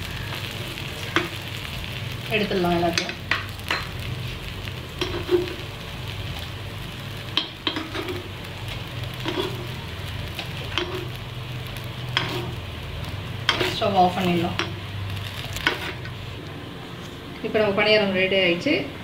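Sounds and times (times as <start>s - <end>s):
food sizzling in oil: 0.0s - 16.4s.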